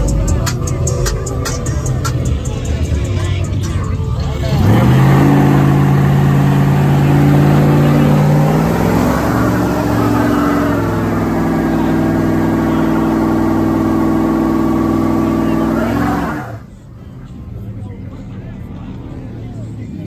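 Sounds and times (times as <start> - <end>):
truck engine at high revs: 0.0 - 16.9.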